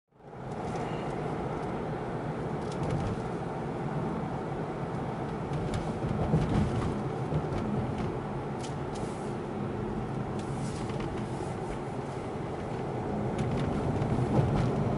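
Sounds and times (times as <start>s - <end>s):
road and engine noise in car: 0.1s - 14.9s.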